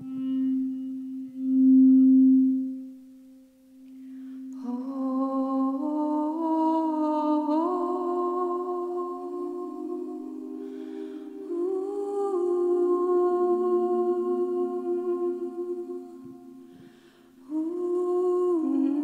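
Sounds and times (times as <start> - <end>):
woman humming melody: 0.0 - 2.9, 4.4 - 19.0
held drone tone: 0.0 - 19.0.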